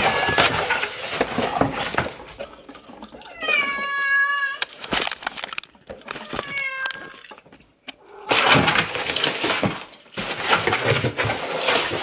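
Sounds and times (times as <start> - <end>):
packing material crinkling: 0.0 - 7.4, 8.4 - 12.0.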